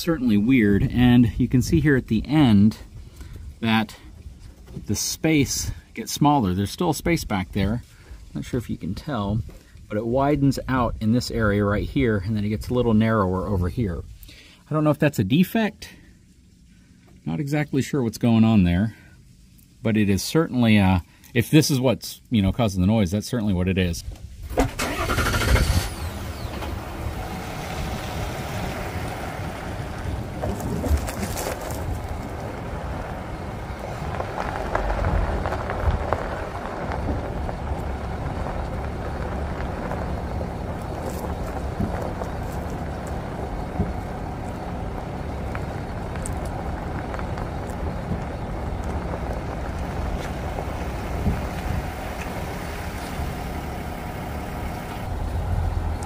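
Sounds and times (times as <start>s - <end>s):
tyres rumbling on gravel: 0.0s - 16.2s, 22.4s - 56.0s.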